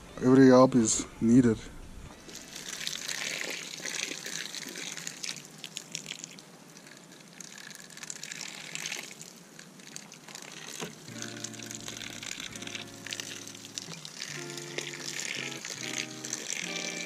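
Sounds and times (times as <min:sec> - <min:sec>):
water pouring onto soil: 0:02.2 - 0:17.0.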